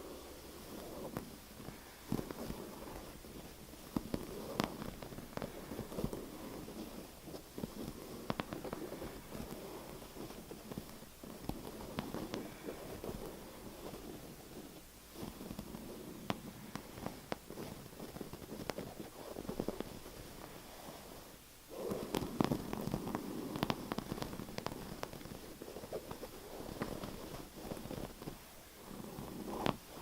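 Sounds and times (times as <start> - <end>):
rough scratching noise: 0.0 - 30.0.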